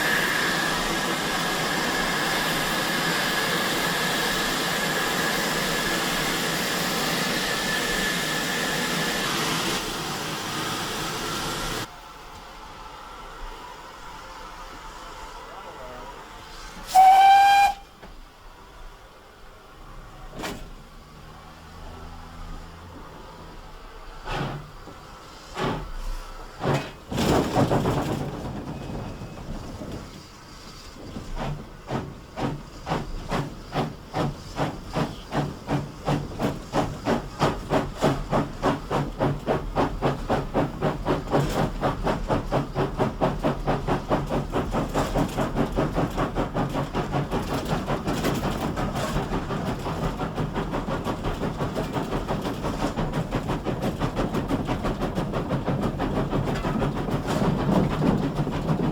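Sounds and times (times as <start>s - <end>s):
steam locomotive exhaust beats: 0.0s - 18.6s, 22.4s - 58.9s
steam hissing: 0.0s - 19.7s, 23.8s - 58.9s.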